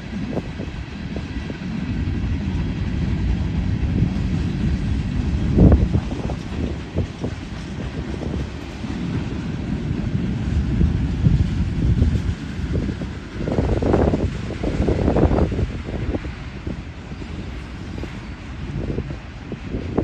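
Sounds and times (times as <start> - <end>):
freight train wheels rumbling: 0.0 - 20.0
train cars clacking: 0.0 - 20.0.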